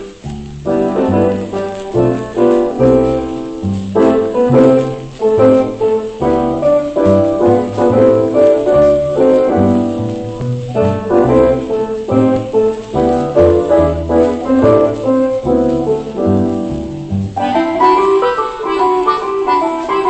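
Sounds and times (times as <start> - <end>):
dance band playing foxtrot: 0.0 - 20.0
shellac record playback: 0.0 - 20.0.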